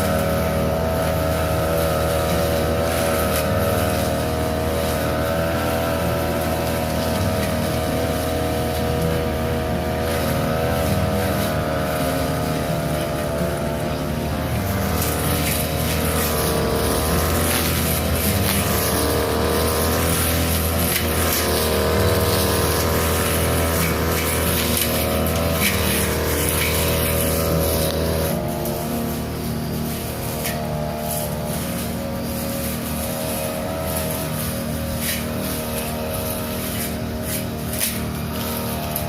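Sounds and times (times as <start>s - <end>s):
blade hissing through grass: 0.0s - 39.0s
small petrol engine running: 0.0s - 39.0s.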